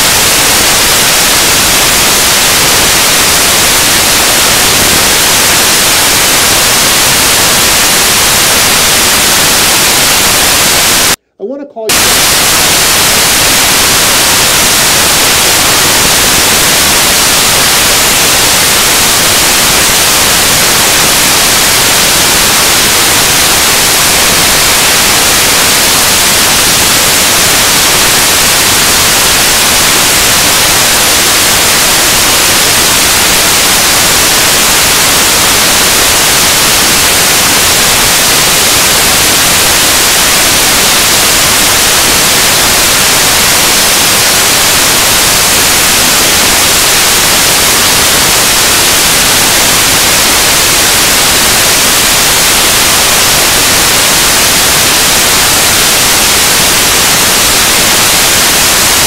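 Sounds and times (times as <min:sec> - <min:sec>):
static hiss: 0:00.0 - 0:11.3, 0:11.9 - 0:59.0.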